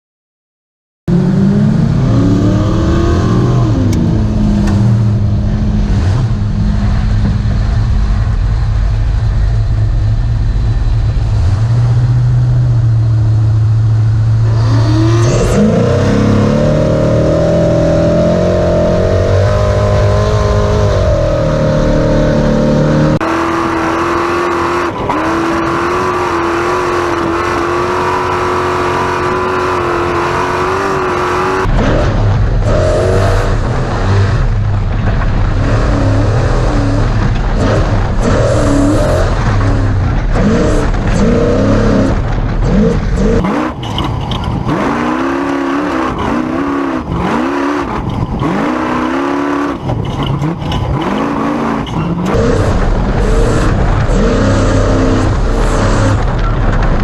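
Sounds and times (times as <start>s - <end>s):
race truck engine revving: 1.1s - 57.0s.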